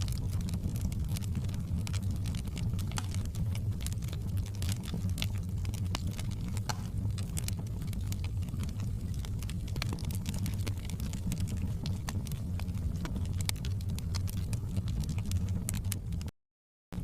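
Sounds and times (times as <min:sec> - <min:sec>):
wood fire crackling and popping: 0:00.0 - 0:16.3.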